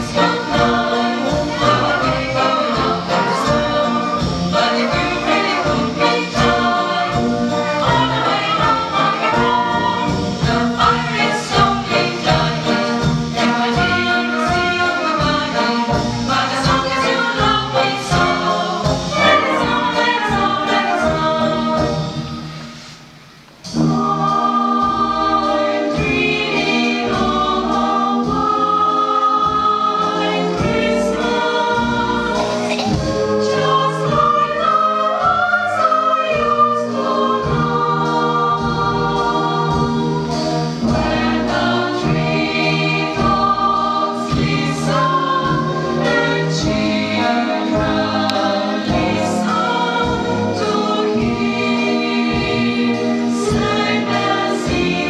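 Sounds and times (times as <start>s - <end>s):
choir singing: 0.0s - 22.5s, 23.7s - 55.0s
wind band playing: 0.0s - 22.6s, 23.8s - 55.0s.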